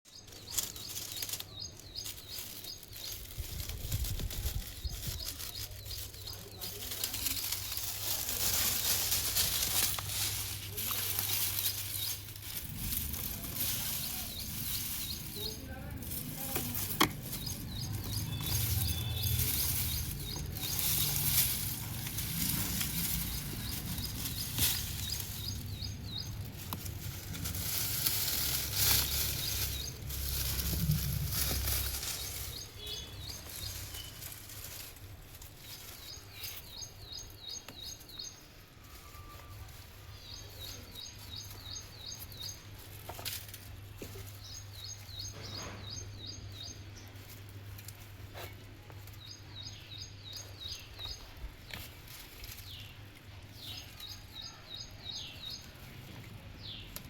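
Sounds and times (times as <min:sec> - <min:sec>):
small bird chirping: 0:00.0 - 0:57.0
soil and vines rustling: 0:00.0 - 0:57.0.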